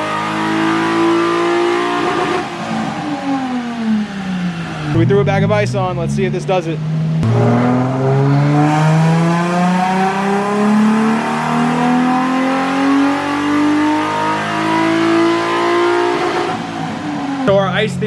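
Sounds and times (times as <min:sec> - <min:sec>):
car engine revving at full throttle: 0:00.0 - 0:18.0.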